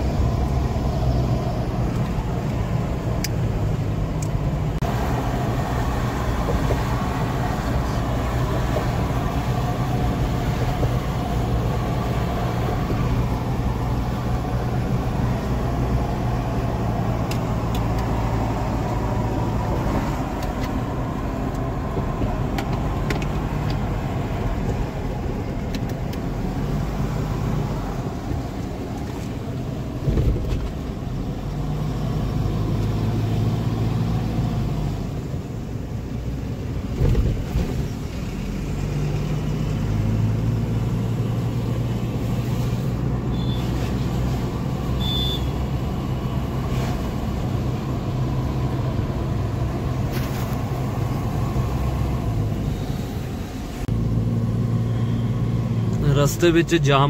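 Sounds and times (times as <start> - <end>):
engine and tyre hum in car: 0.0 - 57.0.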